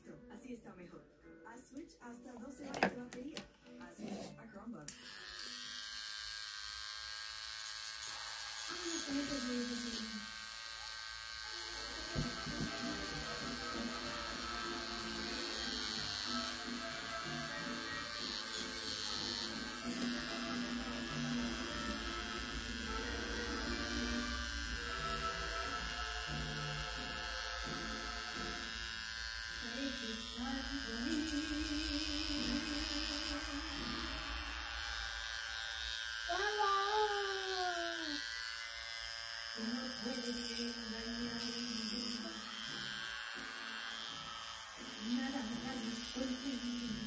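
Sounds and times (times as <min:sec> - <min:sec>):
faint music: 0:00.0 - 0:47.0
small electric motor buzzing: 0:04.9 - 0:47.0.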